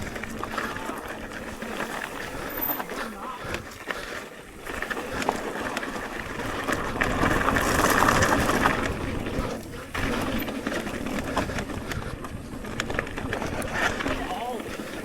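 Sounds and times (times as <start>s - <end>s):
bike clicks and rattles: 0.0s - 15.0s
bike tyre noise on dirt: 0.0s - 15.0s.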